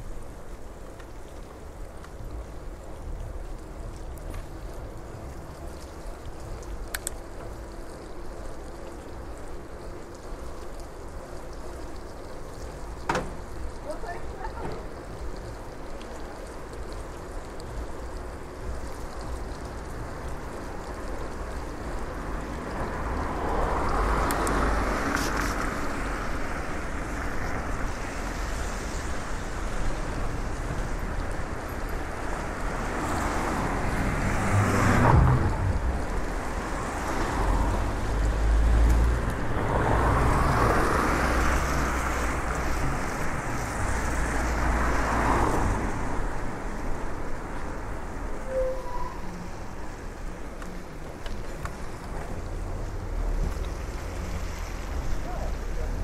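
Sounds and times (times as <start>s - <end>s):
bicycle tyres on wet street: 0.0s - 56.0s
cars passing on wet road: 0.0s - 56.0s.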